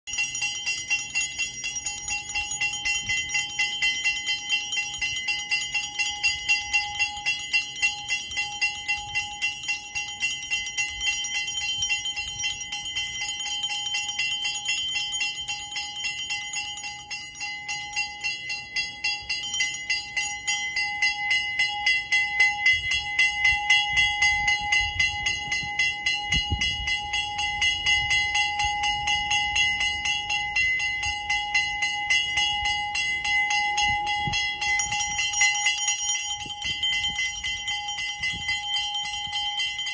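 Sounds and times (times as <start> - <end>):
hand bell ringing rapidly: 0.1 - 39.9.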